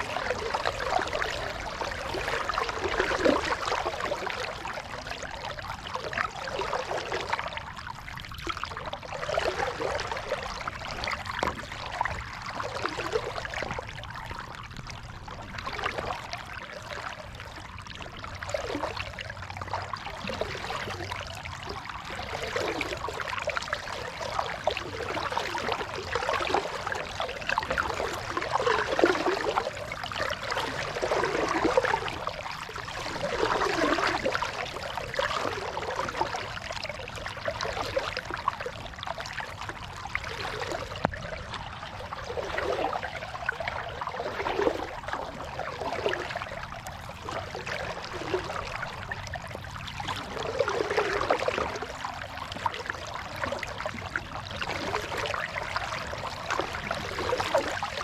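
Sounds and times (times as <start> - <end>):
paddle splashing water: 0.0 - 58.0.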